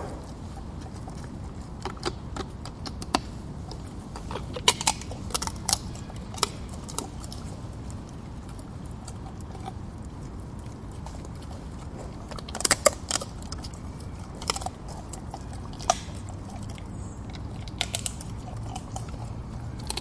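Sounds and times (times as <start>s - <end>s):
steady low rumble: 0.0s - 20.0s
wild boar cracking nuts: 0.0s - 20.0s.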